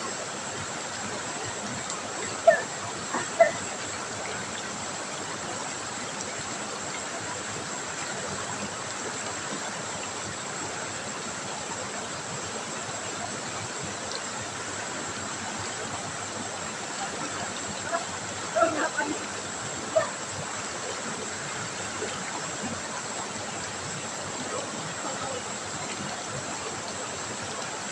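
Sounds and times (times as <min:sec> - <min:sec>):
river water flowing: 0:00.0 - 0:27.9.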